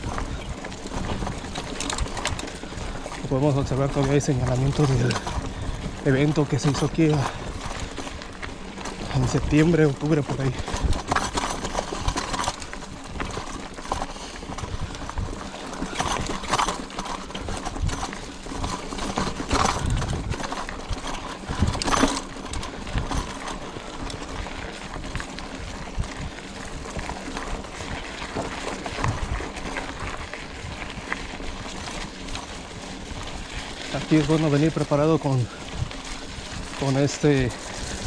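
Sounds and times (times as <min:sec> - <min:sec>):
bike clattering over bumps: 0:00.0 - 0:38.0
bike tyres rolling on dirt: 0:00.0 - 0:38.0.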